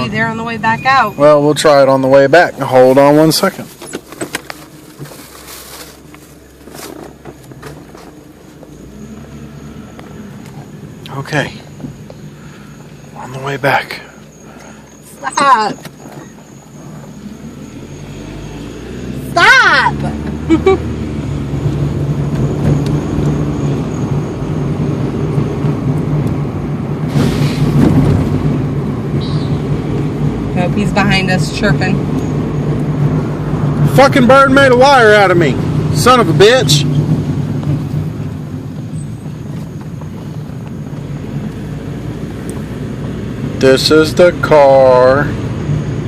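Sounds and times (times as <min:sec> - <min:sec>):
car engine running inside cabin: 0:00.0 - 0:46.0.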